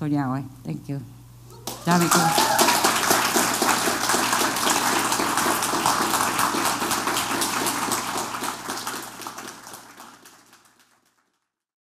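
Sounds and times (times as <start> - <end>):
audience applauding: 1.6 - 11.5.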